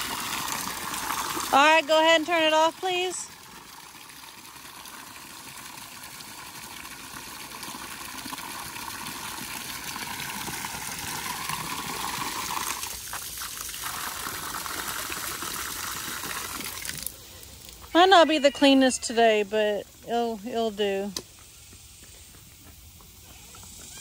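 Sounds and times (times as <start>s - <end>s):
water gushing from a hose: 0.0s - 21.2s.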